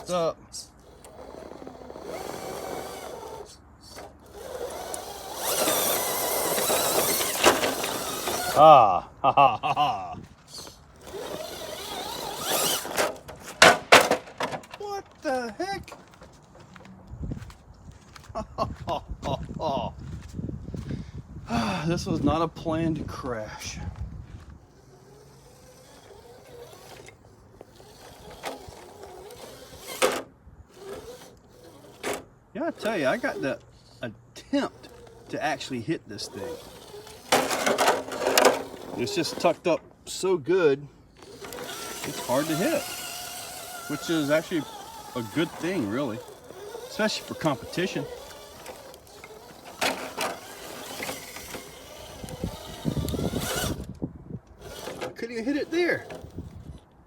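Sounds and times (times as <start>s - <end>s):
tyres scraping on rock: 0.0s - 8.8s, 10.3s - 16.8s, 23.2s - 53.9s, 54.6s - 56.8s
electric motor whining: 0.0s - 8.9s, 10.5s - 16.1s, 24.4s - 40.3s, 41.0s - 56.9s.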